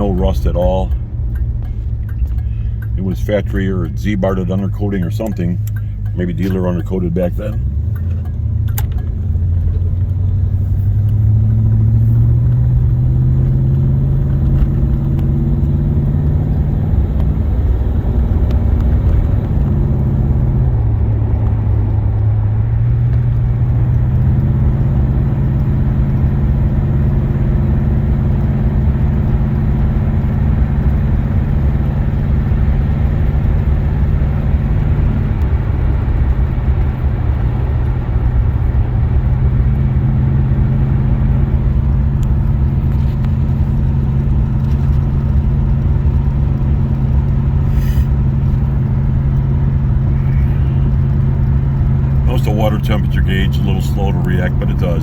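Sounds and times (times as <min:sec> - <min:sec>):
car engine cruising: 0:00.0 - 0:55.0
road noise: 0:00.0 - 0:55.0.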